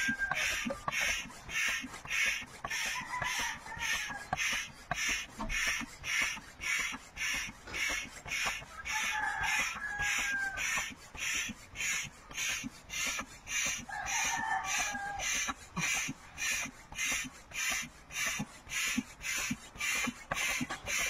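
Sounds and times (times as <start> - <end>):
air pump hissing strokes: 0.0 - 21.0.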